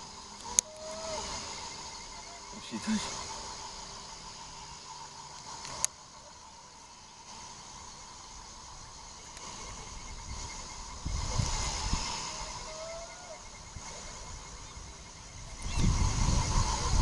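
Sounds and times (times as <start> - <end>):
crickets and insects chirring: 0.0 - 17.0.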